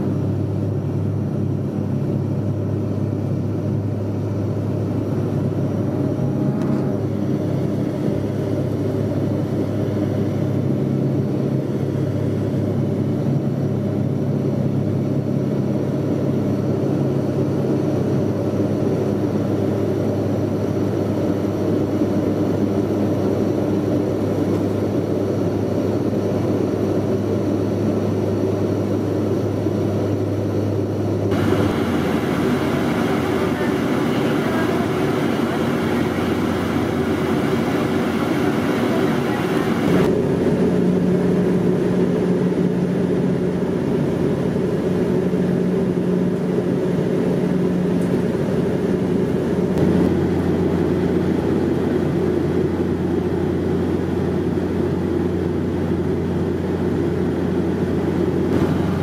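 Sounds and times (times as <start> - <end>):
turboprop engine drone in cabin: 0.0 - 59.0.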